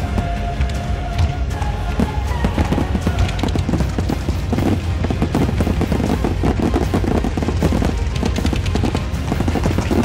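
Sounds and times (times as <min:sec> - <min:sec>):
music soundtrack: 0:00.0 - 0:10.0
fireworks bursts: 0:01.9 - 0:10.0.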